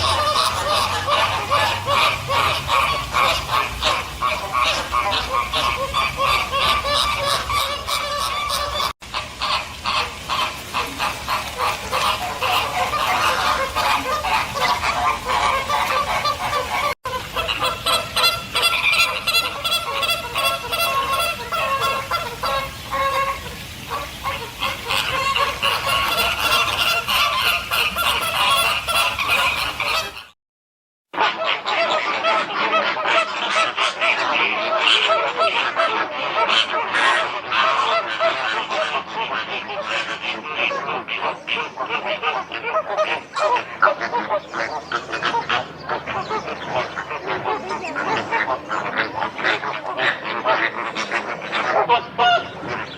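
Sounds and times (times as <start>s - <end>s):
flamingos honking and chattering: 0.0s - 30.4s, 31.2s - 52.9s.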